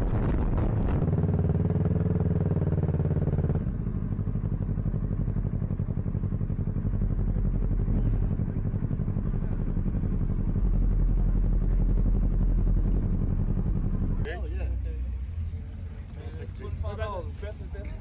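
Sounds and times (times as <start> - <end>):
motorcycle engine running: 0.0 - 18.0
wind rumble: 0.0 - 18.0.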